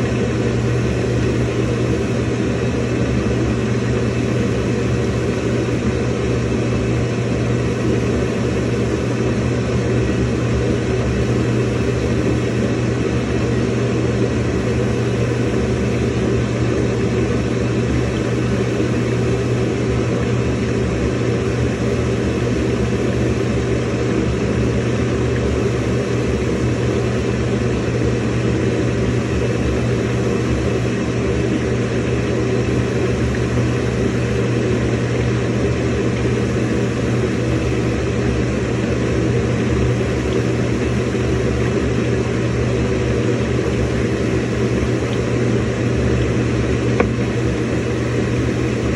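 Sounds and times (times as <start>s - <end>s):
washing machine filling with water: 0.0s - 48.9s.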